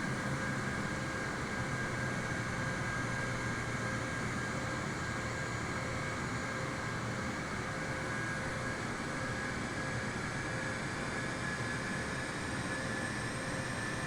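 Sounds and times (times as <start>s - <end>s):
jet airliner engines running: 0.0s - 14.0s.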